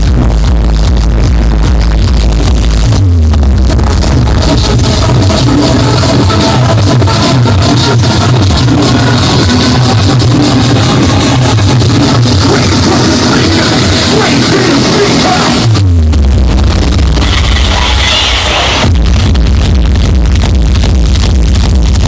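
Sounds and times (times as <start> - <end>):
distorted electronic dance music: 0.0 - 22.0.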